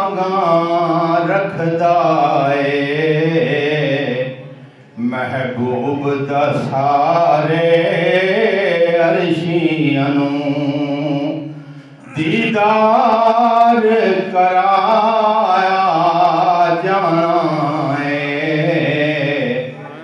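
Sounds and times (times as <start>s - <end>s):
man singing through a microphone: 0.0s - 20.0s.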